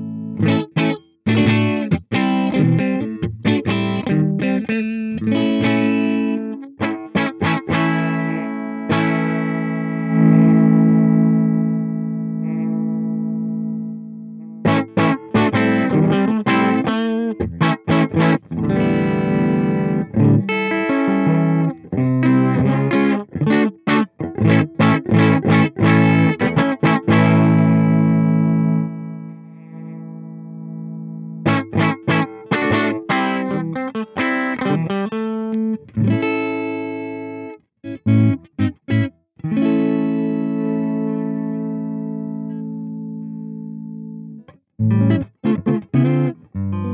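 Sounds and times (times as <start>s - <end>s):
distorted electric guitar chords: 0.0s - 46.9s.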